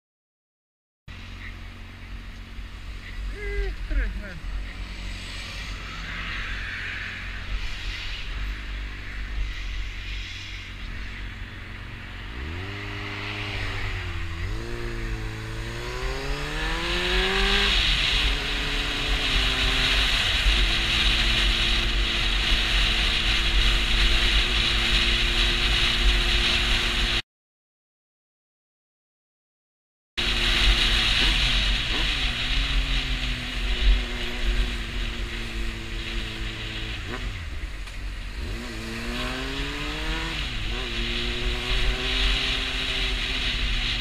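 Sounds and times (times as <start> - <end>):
motorcycle engine accelerating: 1.1 - 27.2, 30.2 - 44.0.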